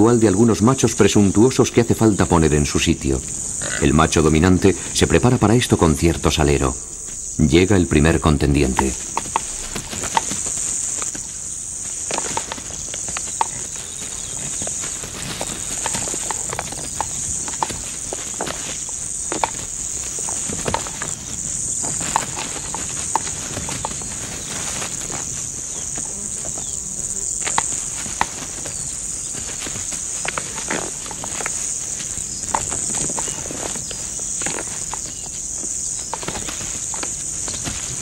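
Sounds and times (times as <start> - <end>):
hooves striking ground: 0.0 - 38.0
insects chorus: 0.0 - 38.0.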